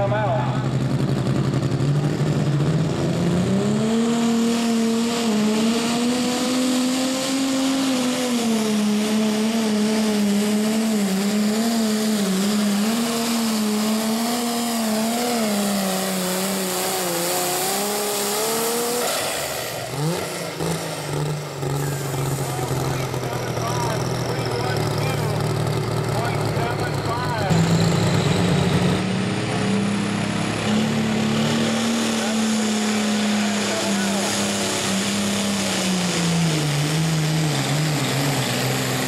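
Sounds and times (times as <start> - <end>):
diesel engine under load: 0.0 - 39.0.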